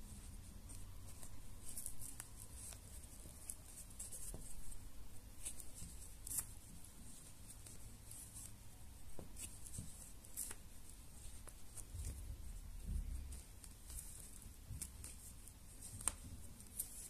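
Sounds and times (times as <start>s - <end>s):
crochet hook scratchy rustling: 0.0s - 17.0s.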